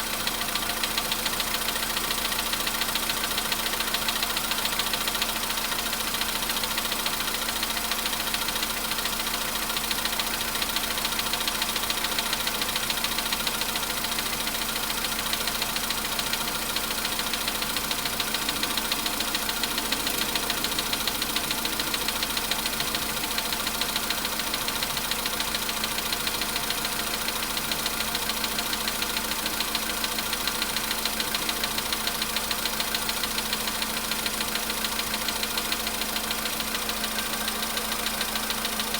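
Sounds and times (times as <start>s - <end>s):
car engine idling with knocking: 0.0s - 38.9s.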